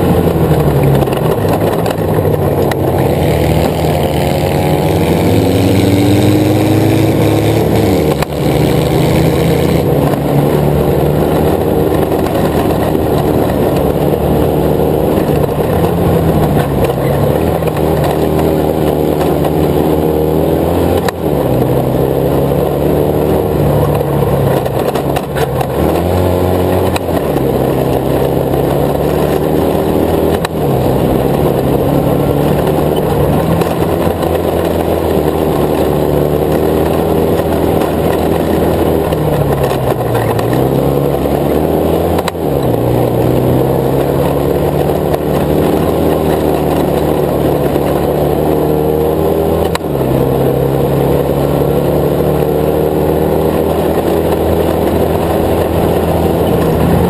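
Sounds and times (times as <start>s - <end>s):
racing buggy engine: 0.0s - 57.0s.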